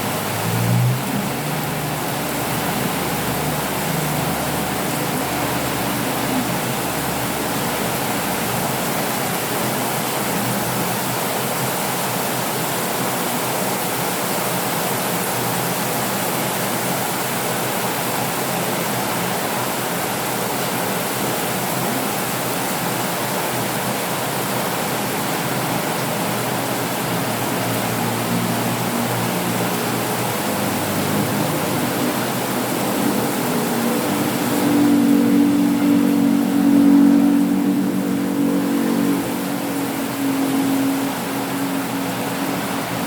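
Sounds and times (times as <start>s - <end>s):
rain falling steadily: 0.0s - 43.0s.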